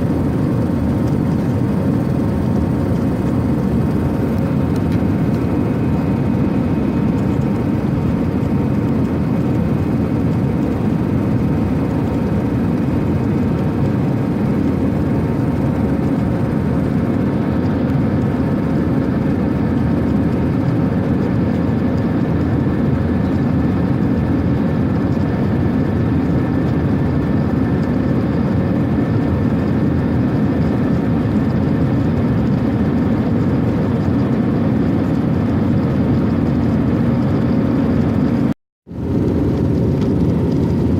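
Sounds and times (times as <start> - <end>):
airplane engines droning: 0.0 - 40.9
faint engine whine: 0.0 - 40.9.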